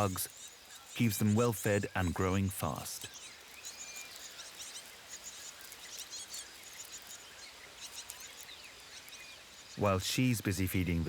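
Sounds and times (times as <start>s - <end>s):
chicks begging chirps: 0.0s - 10.9s.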